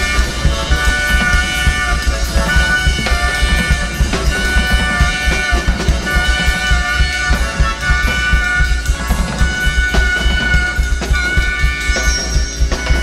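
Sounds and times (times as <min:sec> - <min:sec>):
drum kit playing busily: 0:00.0 - 0:13.0.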